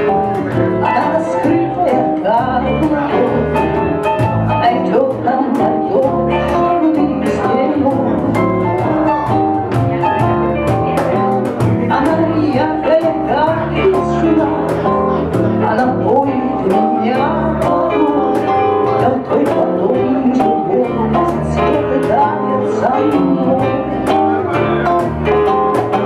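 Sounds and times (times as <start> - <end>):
woman singing: 0.0 - 8.9, 10.2 - 24.4
electric bass: 0.0 - 26.0
electric guitar: 0.0 - 26.0
keyboard: 0.0 - 26.0.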